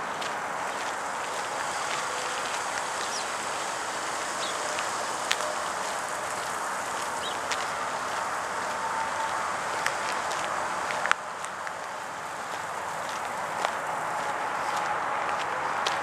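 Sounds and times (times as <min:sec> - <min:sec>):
steady outdoor noise: 0:00.0 - 0:16.0.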